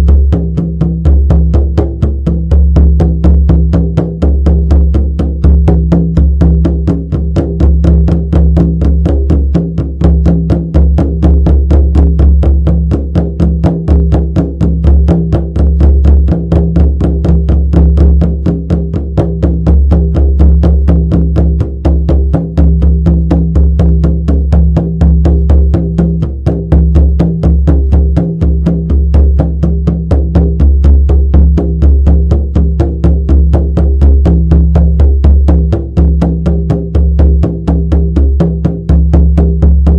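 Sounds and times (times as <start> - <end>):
frame drum beaten rhythmically: 0.0 - 39.9.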